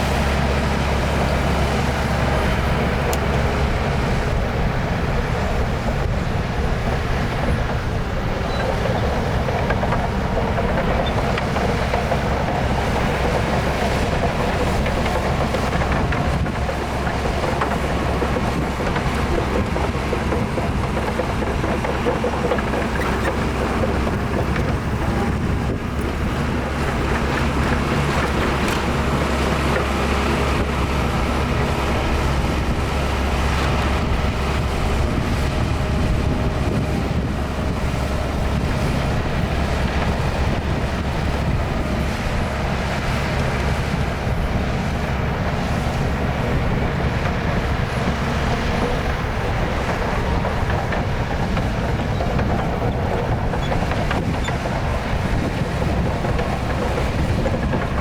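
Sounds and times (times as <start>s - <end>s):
diesel machinery rumbling: 0.0s - 58.0s.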